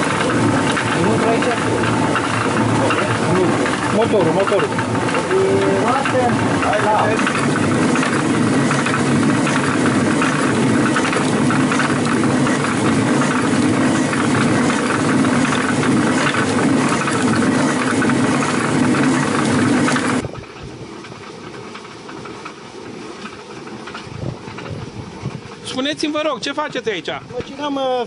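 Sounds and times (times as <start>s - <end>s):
grain mill grinding: 0.0s - 25.8s.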